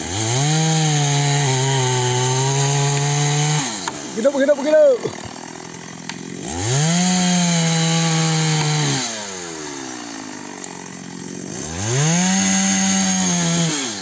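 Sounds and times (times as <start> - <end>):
chainsaw revving and cutting wood: 0.0 - 14.0.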